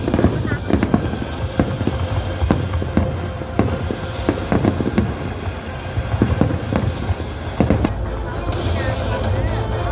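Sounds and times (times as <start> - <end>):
fireworks bangs: 0.0 - 9.9.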